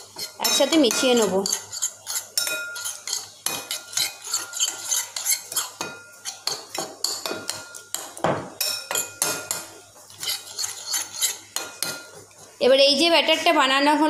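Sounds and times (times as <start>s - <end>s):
metal spoon stirring in bowl: 0.0s - 12.8s.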